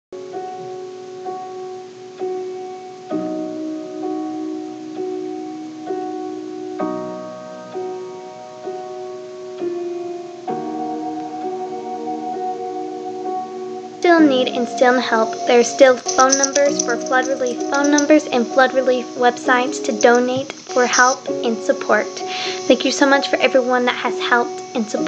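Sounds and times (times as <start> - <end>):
slow gentle piano music: 0.2 - 25.0.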